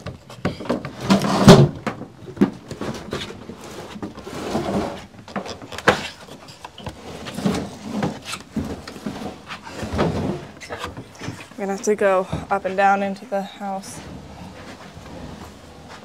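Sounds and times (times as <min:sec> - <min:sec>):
wooden box scraping: 0:00.3 - 0:01.8, 0:02.5 - 0:16.0.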